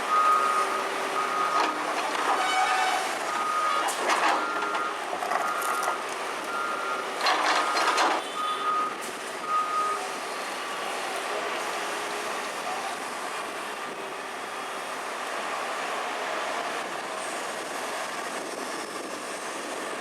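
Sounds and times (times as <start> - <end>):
heavy construction machinery running: 0.0 - 20.0.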